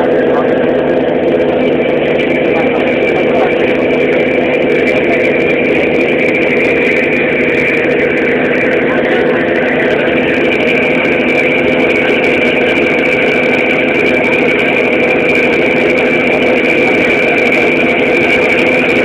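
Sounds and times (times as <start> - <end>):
ship engine humming: 0.0 - 19.0.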